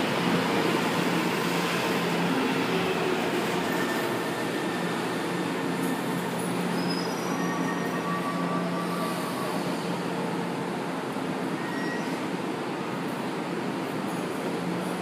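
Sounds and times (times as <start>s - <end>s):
subway train braking: 0.0s - 15.0s.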